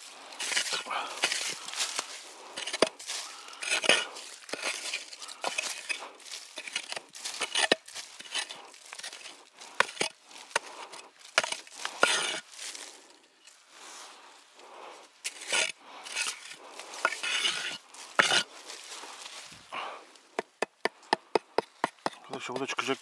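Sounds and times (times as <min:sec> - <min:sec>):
dirt and gravel scraping: 0:00.0 - 0:20.6, 0:21.5 - 0:23.0.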